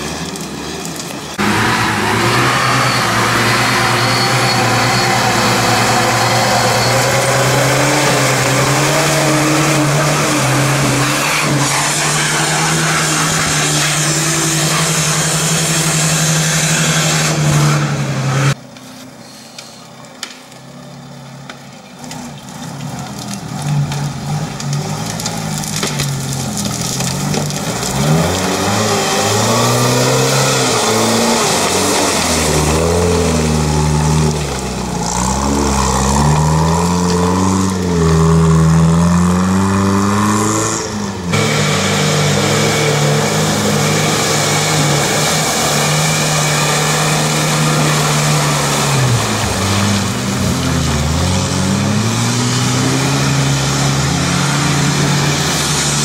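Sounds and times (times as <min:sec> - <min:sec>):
off-road vehicle engine revving: 0:00.0 - 0:18.6, 0:21.4 - 0:56.0
engine revving up and down: 0:01.4 - 0:18.6, 0:26.6 - 0:56.0.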